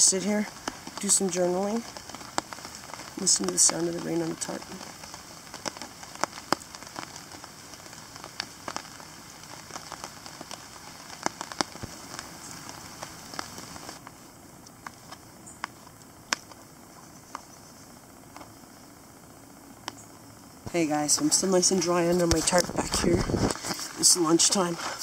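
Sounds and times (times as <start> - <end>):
rain pattering on a tarp: 0.0 - 16.8, 20.7 - 25.0.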